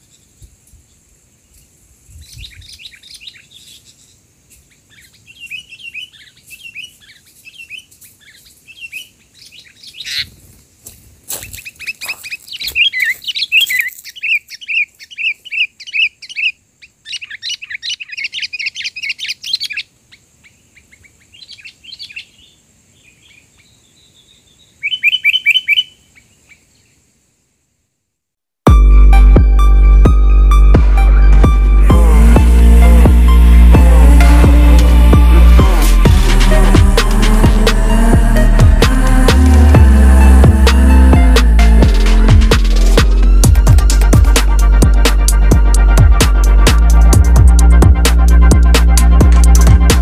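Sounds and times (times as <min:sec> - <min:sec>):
bulbuls chirping: 0:00.0 - 0:27.0, 0:30.2 - 0:50.0.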